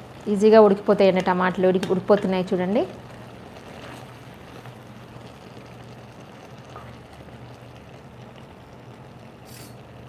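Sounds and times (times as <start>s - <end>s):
tomatoes sizzling in a pot: 0.0s - 10.0s.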